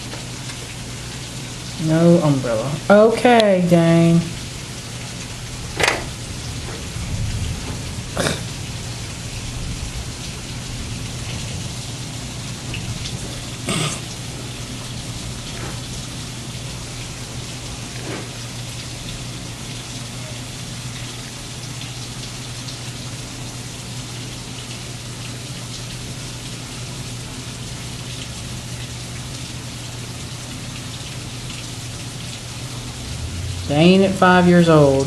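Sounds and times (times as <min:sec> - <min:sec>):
low steady hum: 0:00.0 - 0:35.0
steady rain hiss: 0:00.0 - 0:35.0.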